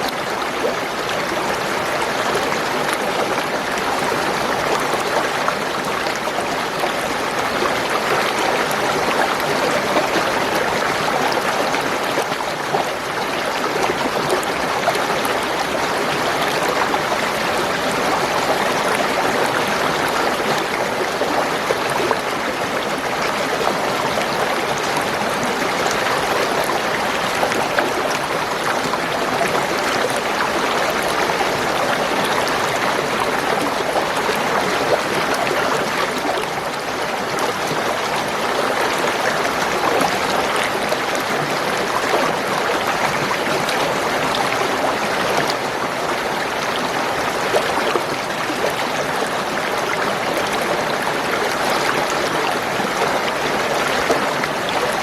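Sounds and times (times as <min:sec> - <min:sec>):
spring water gurgling: 0:00.0 - 0:55.0.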